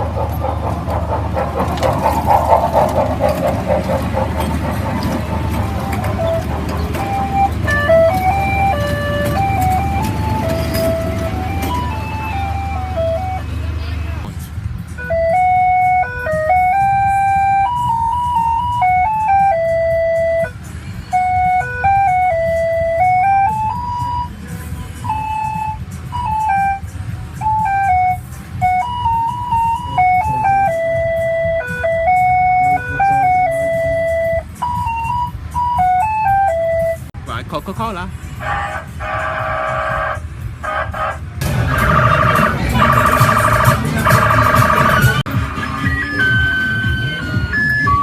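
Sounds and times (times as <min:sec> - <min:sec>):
low engine rumble: 0:00.0 - 0:48.0.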